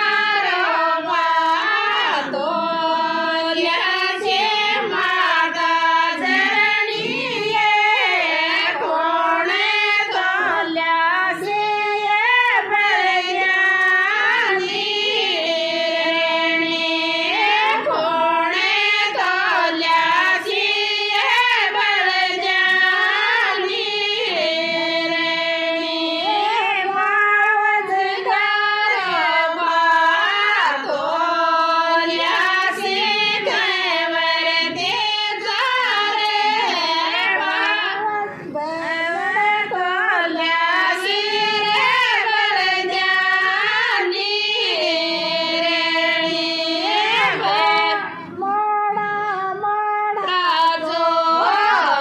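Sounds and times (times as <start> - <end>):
women singing unaccompanied: 0.0 - 52.0.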